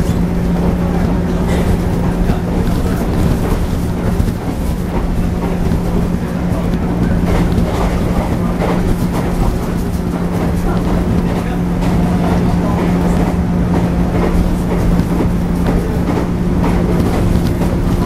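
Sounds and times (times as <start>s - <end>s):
traction motors humming: 0.0s - 18.0s
wheels rumbling on rail: 0.0s - 18.0s.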